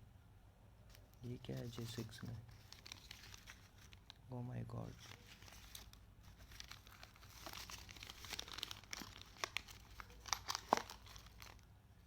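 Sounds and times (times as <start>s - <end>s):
packaging crinkling and rustling: 0.9s - 11.7s.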